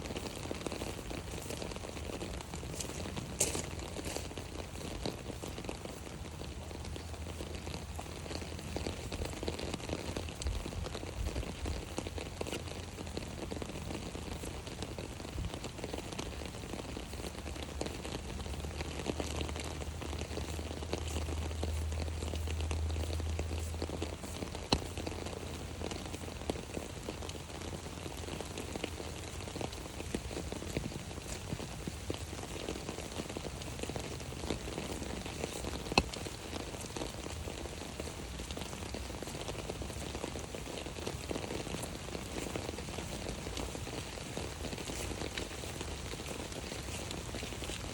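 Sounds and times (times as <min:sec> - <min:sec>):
rain pattering on an umbrella: 0:00.0 - 0:47.9.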